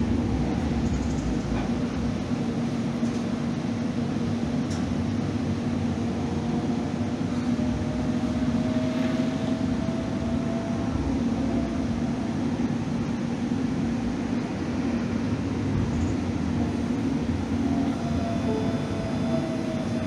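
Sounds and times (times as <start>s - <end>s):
light rail car rumble: 0.0s - 20.0s.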